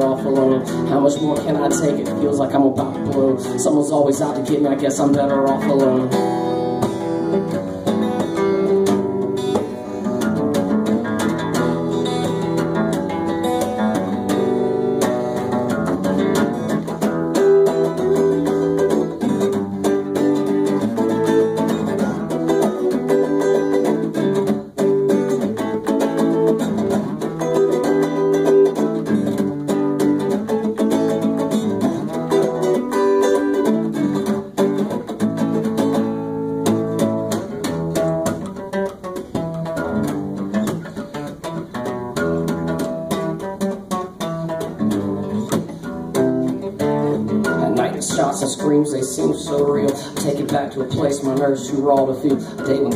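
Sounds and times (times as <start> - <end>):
instrumental guitar music: 0.0 - 52.9.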